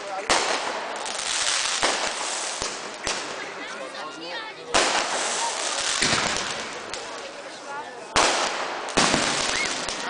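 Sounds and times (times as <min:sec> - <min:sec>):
firework bangs: 0:00.0 - 0:03.7, 0:04.7 - 0:10.0
firework crackling: 0:00.0 - 0:10.0.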